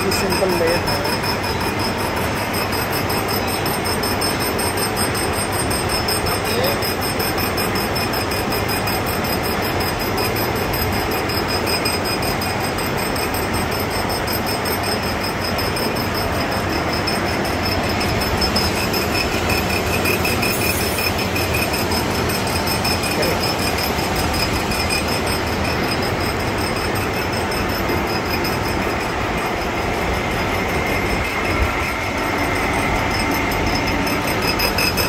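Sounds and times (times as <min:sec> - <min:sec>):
high pulsing whine: 0:00.0 - 0:35.0
lathe and grinder motor: 0:00.0 - 0:35.0.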